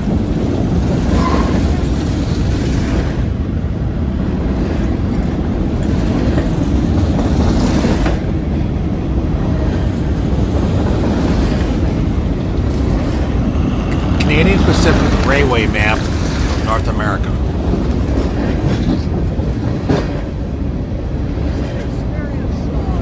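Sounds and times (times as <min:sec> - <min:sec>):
freight train wheels rumbling on rails: 0:00.0 - 0:23.0.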